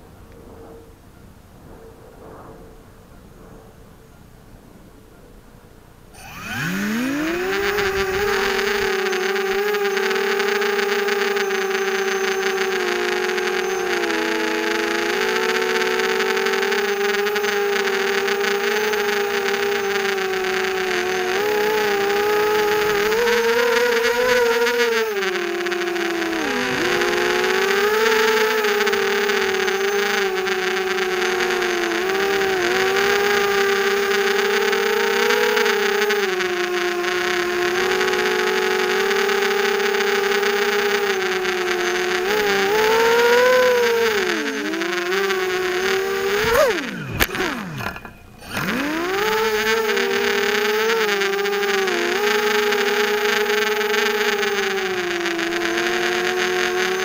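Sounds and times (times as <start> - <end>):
quadcopter motors buzzing whine: 5.8 - 57.0.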